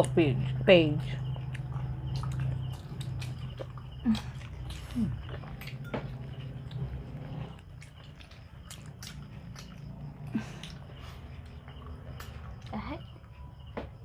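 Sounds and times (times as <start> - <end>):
people chewing and biting food: 1.1 - 13.4.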